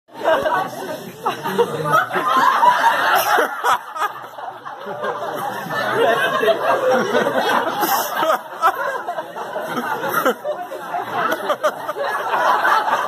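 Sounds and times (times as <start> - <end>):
people laughing: 0.1 - 13.0.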